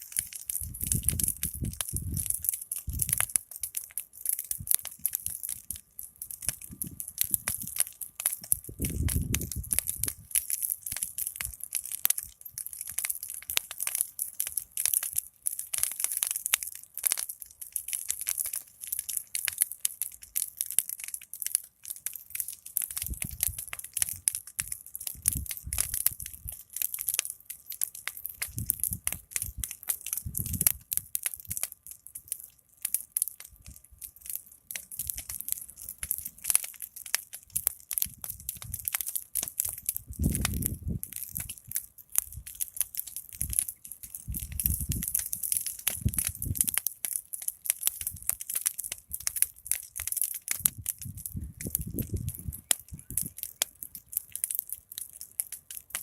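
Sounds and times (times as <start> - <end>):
low rumbles from burning pile: 0.0 - 56.0
wood fire crackling: 0.0 - 56.0.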